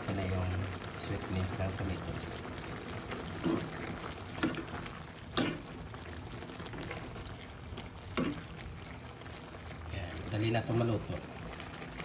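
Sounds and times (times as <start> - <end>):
food bubbling: 0.0 - 12.0
wooden spoon stirring in skillet: 1.6 - 12.0.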